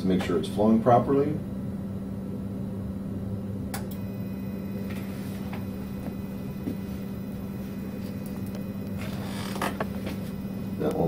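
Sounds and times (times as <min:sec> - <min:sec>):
three d printer humming: 0:00.0 - 0:11.0.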